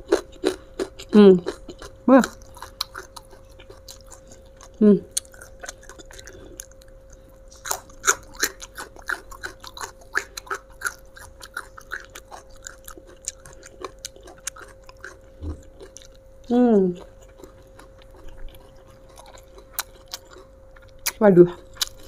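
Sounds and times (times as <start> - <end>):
crisp crunchy chewing: 0.0 - 22.0.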